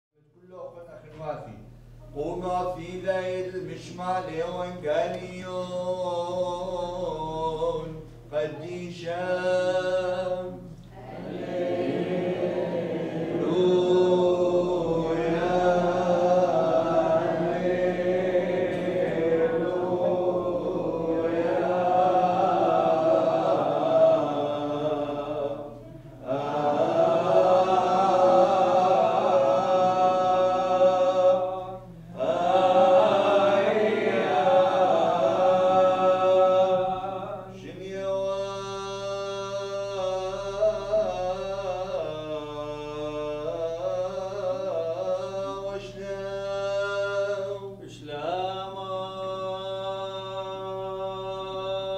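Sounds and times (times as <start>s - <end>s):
liturgical chant: 0.3s - 51.9s.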